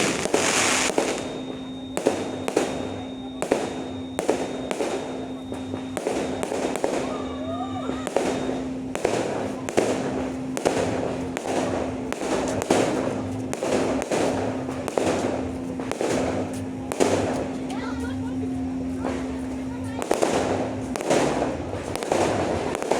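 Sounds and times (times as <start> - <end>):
fireworks bangs: 0.0 - 22.9
fireworks crackling: 0.0 - 22.9.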